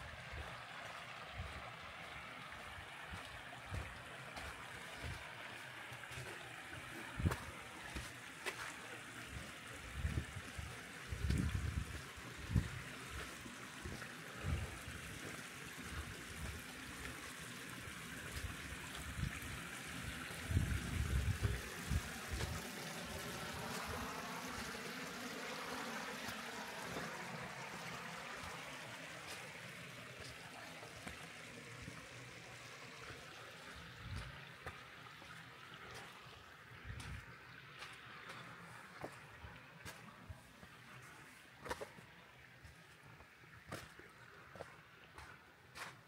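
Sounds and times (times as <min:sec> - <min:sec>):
stream water running over rocks: 0:00.0 - 0:46.0.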